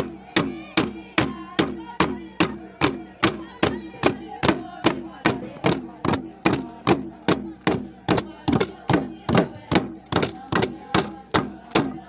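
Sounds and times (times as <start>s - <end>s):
drum beating steadily: 0.0s - 12.0s
voices chanting: 0.0s - 12.0s.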